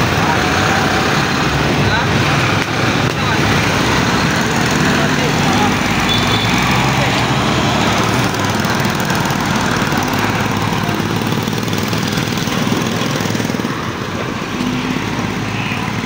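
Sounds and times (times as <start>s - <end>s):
diesel coach pulling away: 0.0s - 16.0s
small motorcycle engines: 0.0s - 16.0s.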